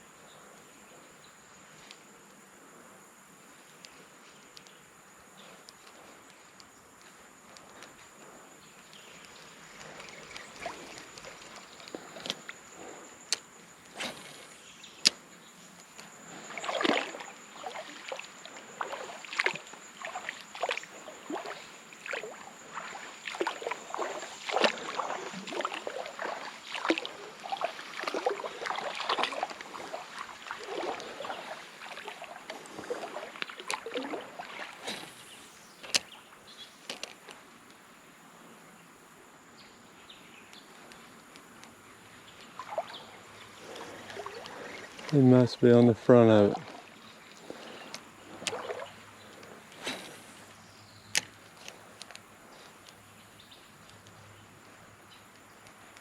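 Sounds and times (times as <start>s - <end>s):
legs wading through water: 3.5s - 37.2s, 40.0s - 56.0s.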